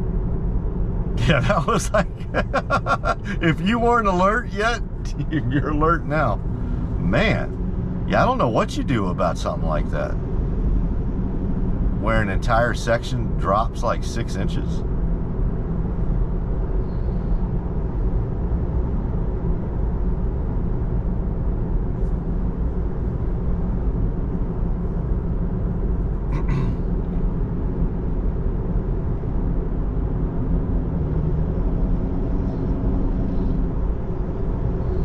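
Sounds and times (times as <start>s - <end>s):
road and tyre noise in car cabin: 0.0s - 35.0s.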